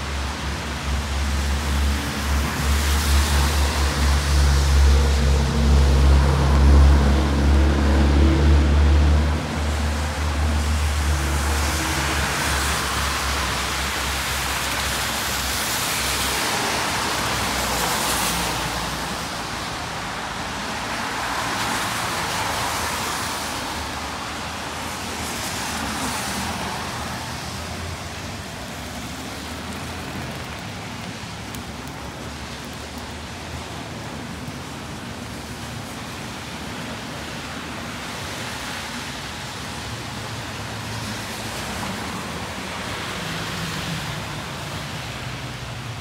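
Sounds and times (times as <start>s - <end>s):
car tyres hissing on wet road: 0.0s - 46.0s
rain hissing: 2.2s - 45.8s.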